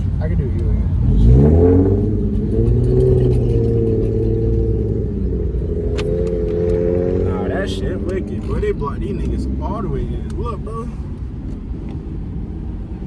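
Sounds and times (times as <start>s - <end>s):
car engine pulling: 0.0s - 13.0s.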